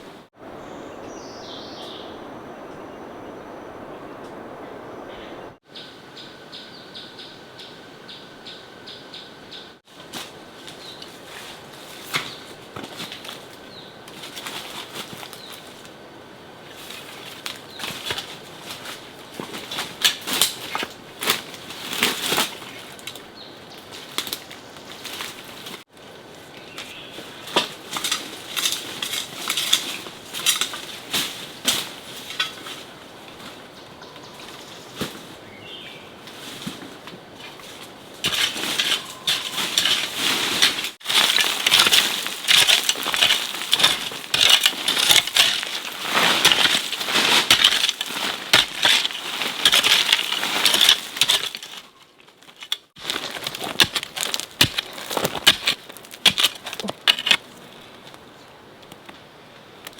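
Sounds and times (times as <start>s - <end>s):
crackling and rustling: 9.9s - 16.0s, 16.6s - 59.2s.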